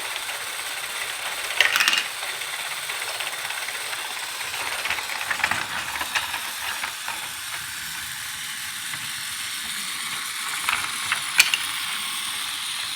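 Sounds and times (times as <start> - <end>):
toy train clicks: 0.0 - 12.9
toy train whirring: 0.0 - 12.9.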